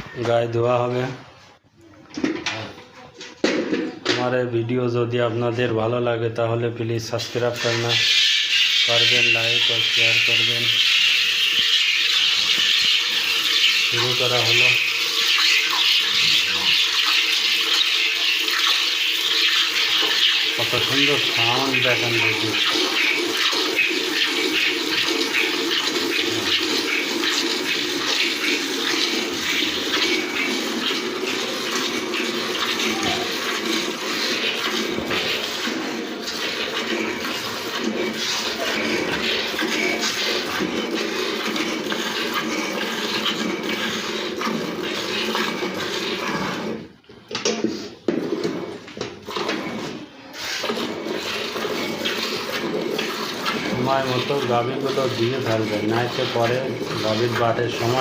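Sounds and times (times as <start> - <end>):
milk squirting into a pail: 7.0 - 58.0.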